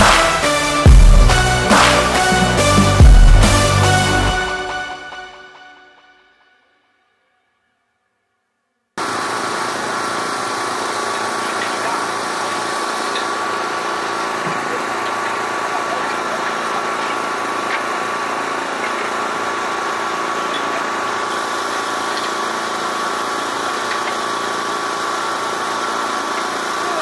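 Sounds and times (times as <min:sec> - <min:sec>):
engine idling: 0:00.0 - 0:04.8, 0:09.0 - 0:27.0.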